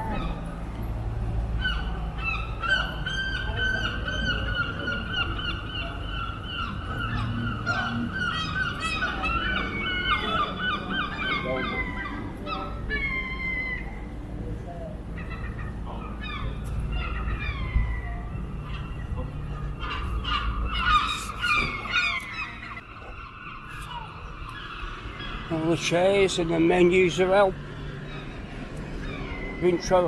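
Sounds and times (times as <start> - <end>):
gulls calling: 0.0 - 30.0
low street rumble: 0.0 - 30.0.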